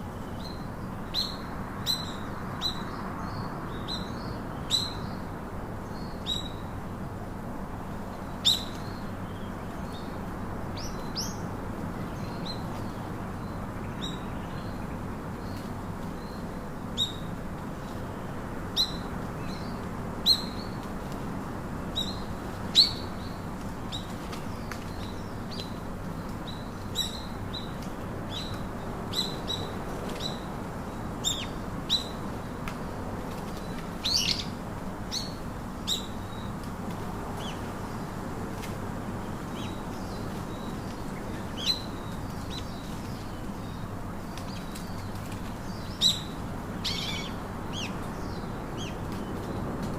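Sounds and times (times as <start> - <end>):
steady background hiss: 0.0 - 49.9.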